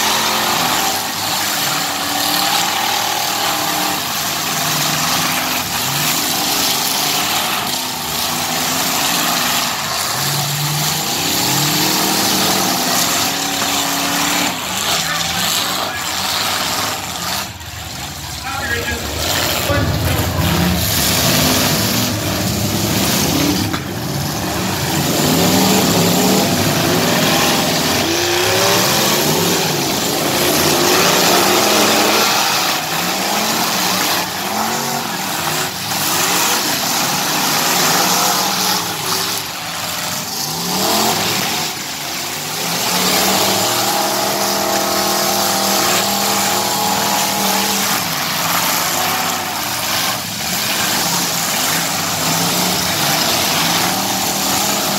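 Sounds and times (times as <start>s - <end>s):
crowd noise: 0.0s - 54.9s
engines revving hard: 0.0s - 54.9s.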